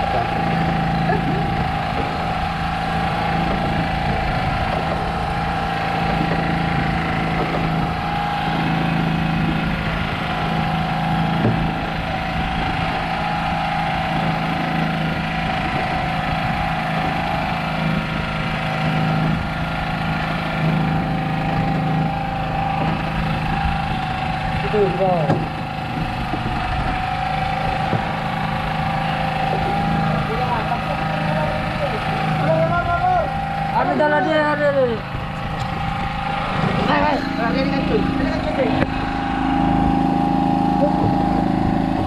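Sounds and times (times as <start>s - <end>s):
boat engine droning: 0.0s - 42.0s.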